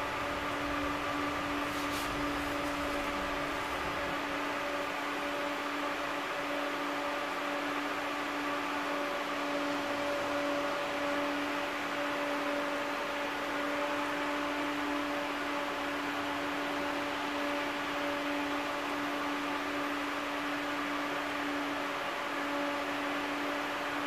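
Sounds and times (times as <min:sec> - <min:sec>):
tram cabin hum: 0:00.0 - 0:19.6.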